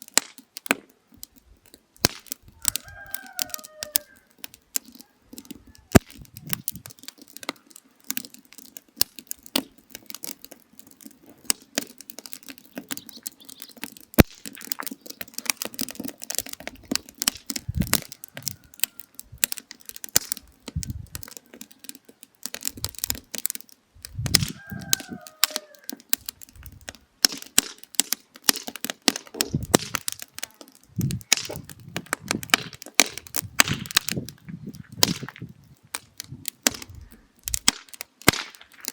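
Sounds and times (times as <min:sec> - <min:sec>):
firewood crackling and popping: 0:00.0 - 0:38.9
rushing flame: 0:01.2 - 0:21.6, 0:22.4 - 0:38.9.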